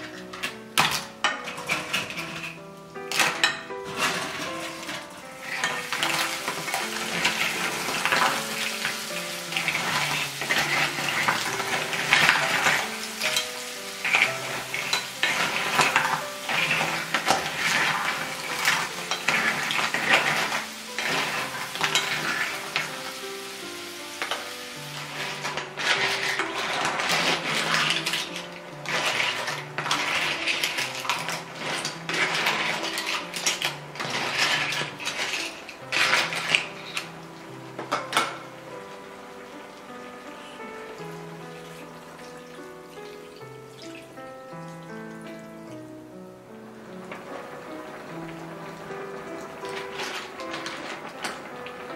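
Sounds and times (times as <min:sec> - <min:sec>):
clams sizzling in pan: 0:00.0 - 0:51.9
soft background music: 0:00.0 - 0:51.9.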